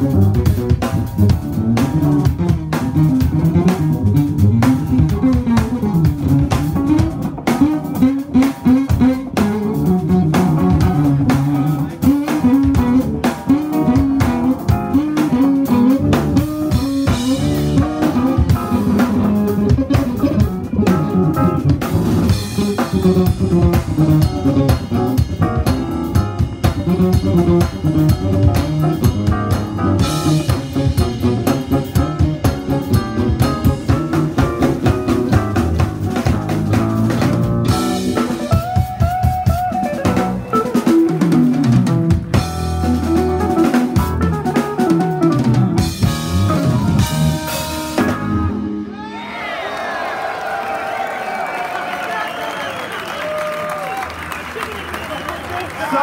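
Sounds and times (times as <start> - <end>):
electric bass lines: 0.0 - 48.9
drum kit: 0.0 - 49.5.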